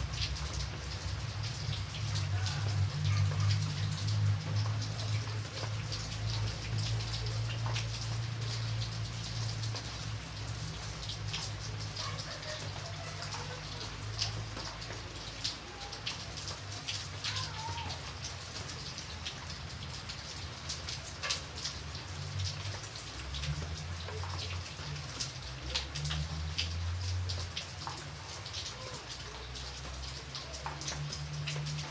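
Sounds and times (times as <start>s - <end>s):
raindrops ticking close by: 0.0s - 31.9s
steady rain falling: 0.0s - 31.9s.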